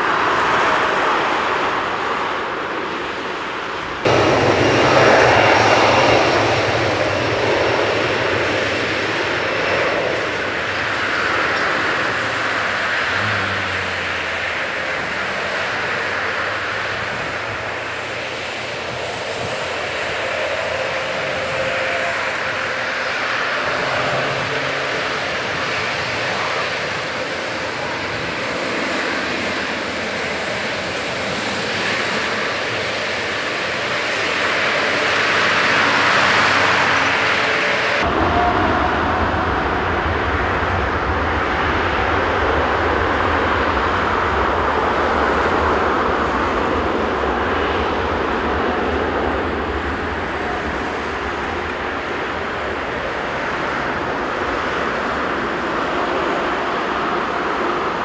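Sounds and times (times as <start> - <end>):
jet engines low rumble: 0.0 - 58.0
jet engines whining: 0.0 - 58.0.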